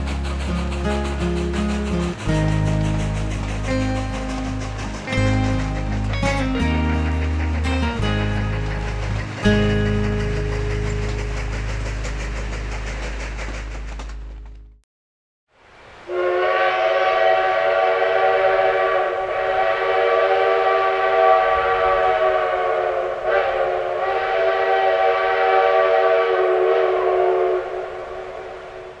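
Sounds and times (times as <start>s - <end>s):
steam locomotive whistle: 0.0s - 11.8s, 16.1s - 29.0s.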